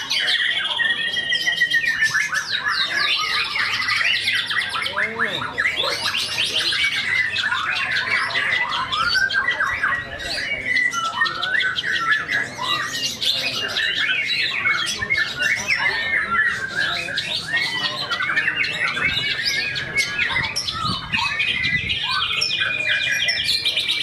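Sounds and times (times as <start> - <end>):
songbird singing varied song: 0.0 - 24.0.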